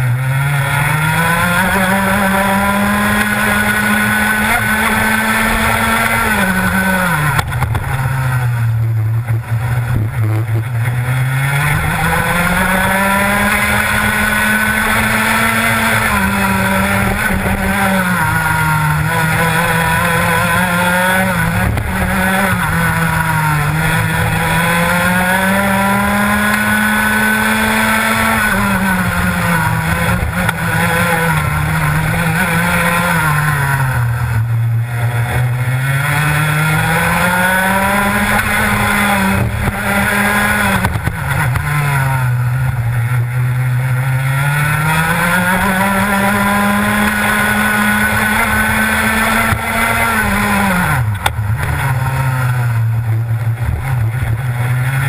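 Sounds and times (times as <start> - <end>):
kart engine racing: 0.0 - 55.0.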